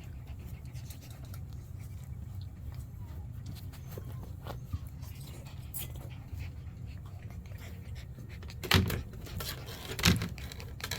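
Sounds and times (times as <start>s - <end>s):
puppy panting: 0.0s - 10.9s.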